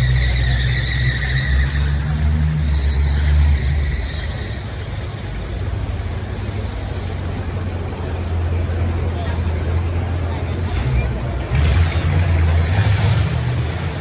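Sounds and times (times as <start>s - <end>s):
car engine rumbling with whine: 0.0s - 14.0s.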